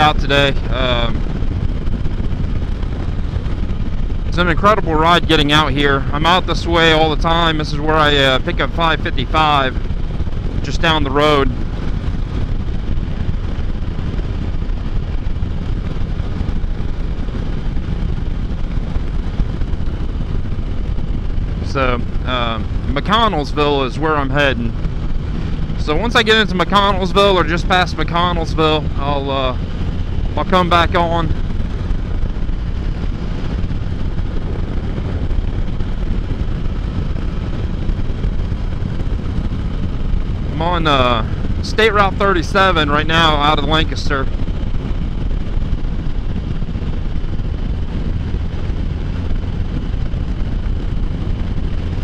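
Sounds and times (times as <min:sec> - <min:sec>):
motorcycle engine and road noise: 0:00.0 - 0:52.0
wind rumble on microphone: 0:00.0 - 0:52.0.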